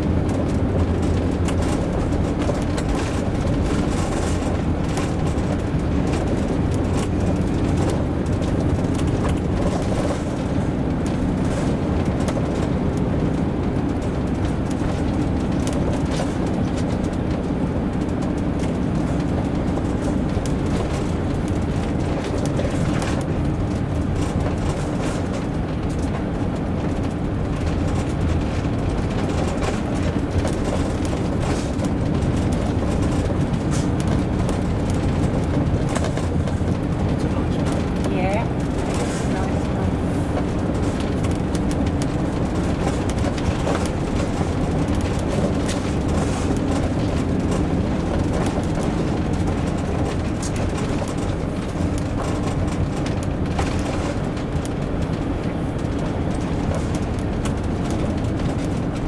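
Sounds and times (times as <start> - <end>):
engine and tyre rumble: 0.0 - 59.0
small clicks and rattles: 0.2 - 59.0.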